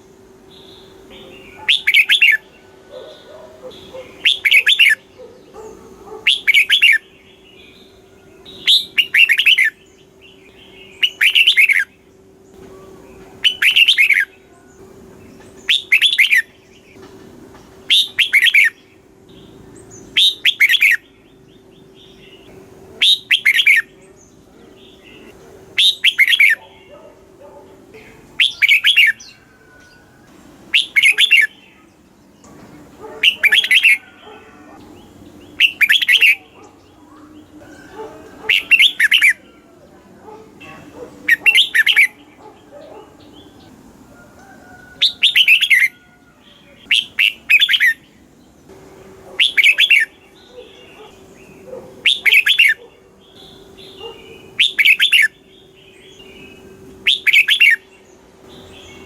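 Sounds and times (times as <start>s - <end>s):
bird singing warbled phrases: 0.0s - 59.0s.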